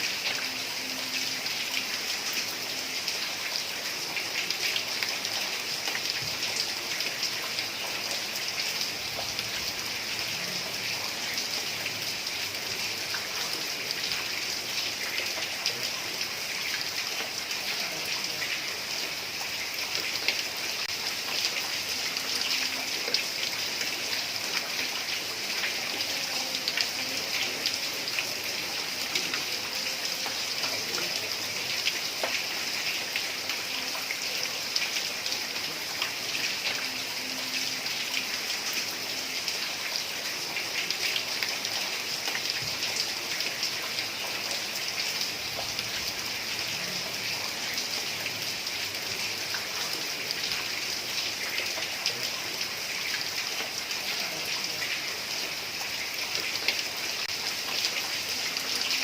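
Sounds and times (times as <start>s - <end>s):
heavy rain on a tiled roof: 0.0s - 59.0s
raindrops ticking on tiles: 0.1s - 59.0s.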